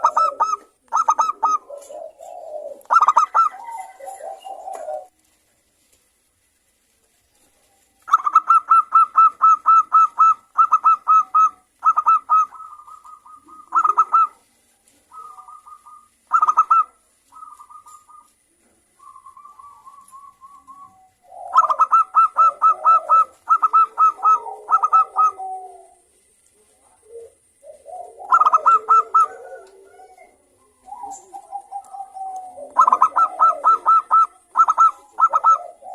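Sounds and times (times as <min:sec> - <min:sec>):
dove cooing: 0:00.0 - 0:05.2, 0:08.1 - 0:35.9.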